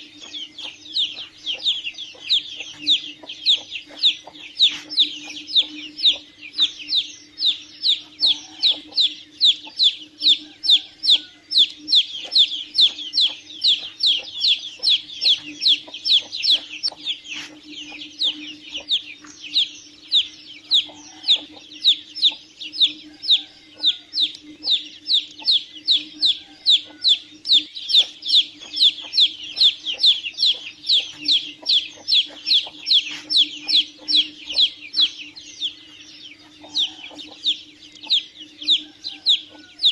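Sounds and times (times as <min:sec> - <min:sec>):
chicks peeping: 0:00.0 - 0:39.9
steady low hum: 0:00.0 - 0:39.9.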